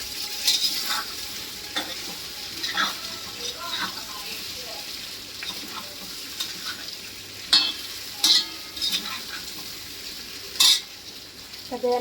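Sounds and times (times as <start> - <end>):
food sizzling in oil: 0.0 - 12.0
spatula scraping pan: 0.1 - 11.0.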